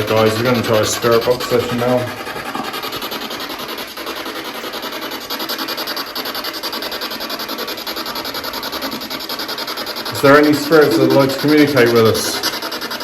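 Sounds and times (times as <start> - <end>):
pulsing radio static: 0.0 - 13.0.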